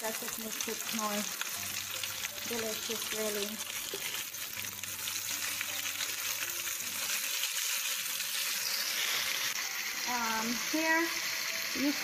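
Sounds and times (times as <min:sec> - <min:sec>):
vegetables sizzling in a frying pan: 0:00.0 - 0:12.0
spatula stirring in a pan: 0:00.5 - 0:11.0.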